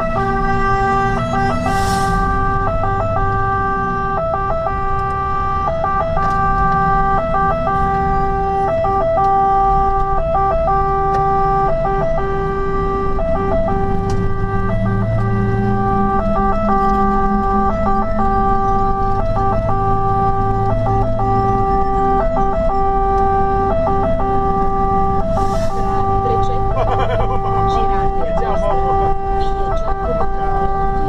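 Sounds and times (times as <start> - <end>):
truck engine and road rumble: 0.0 - 31.0
two-tone siren: 0.0 - 31.0.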